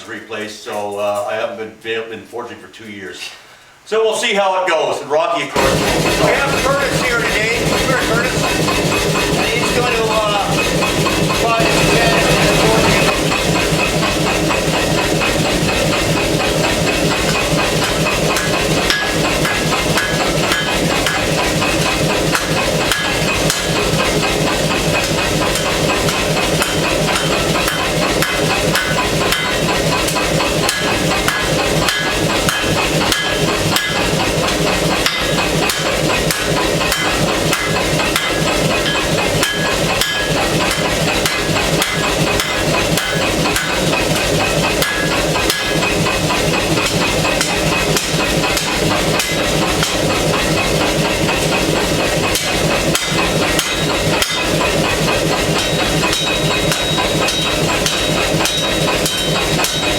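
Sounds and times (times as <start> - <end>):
forge hissing: 5.6 - 59.9
hammer blows on hot steel: 5.6 - 59.9.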